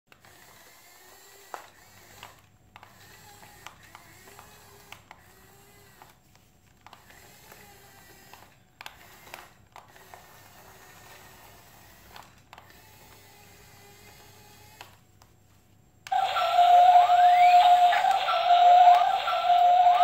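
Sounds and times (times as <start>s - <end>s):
toy motor whine: 0.1s - 6.2s, 6.8s - 15.0s, 16.1s - 20.0s.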